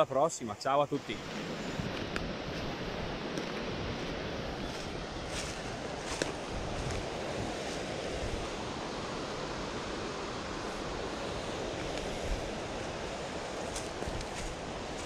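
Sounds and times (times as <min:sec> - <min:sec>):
stream water rushing: 0:00.9 - 0:15.0.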